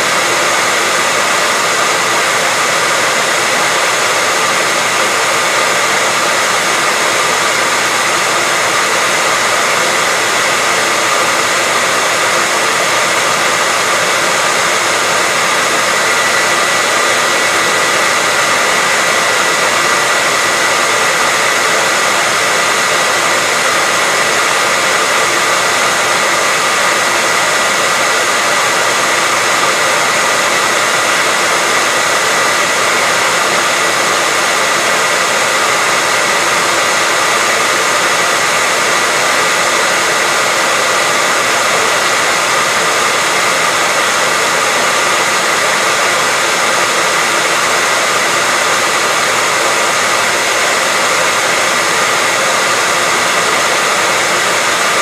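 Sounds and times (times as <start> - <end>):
hairdryer running: 0.0 - 55.0.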